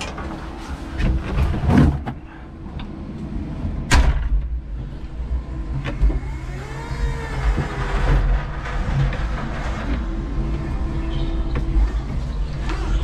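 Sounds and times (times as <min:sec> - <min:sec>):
forklift low rumble: 0:00.0 - 0:13.0.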